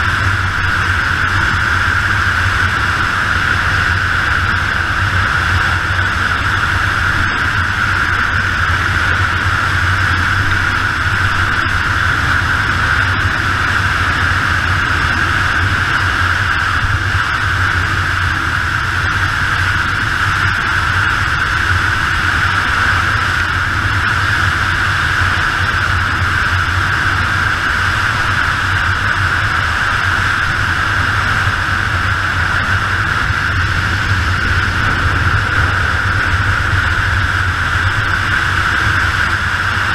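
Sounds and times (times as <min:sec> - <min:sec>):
motorcycle engine low drone: 0:00.0 - 0:39.9
wind noise over camera: 0:00.0 - 0:39.9.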